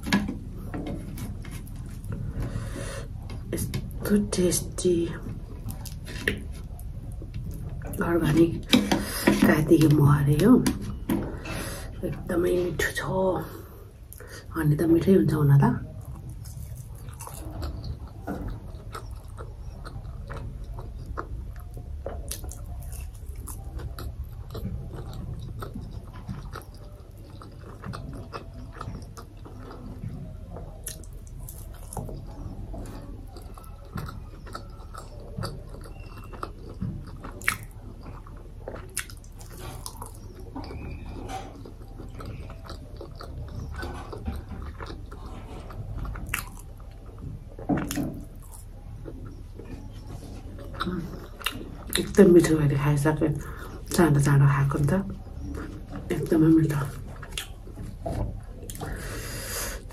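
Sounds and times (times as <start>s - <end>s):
chewing and biting flatbread: 0.0s - 4.4s, 5.2s - 8.0s, 15.9s - 52.2s, 55.1s - 59.9s.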